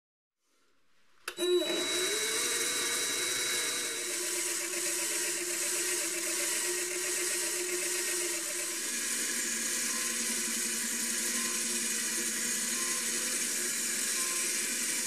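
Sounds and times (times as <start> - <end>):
lathe motor whining: 1.3 - 15.0.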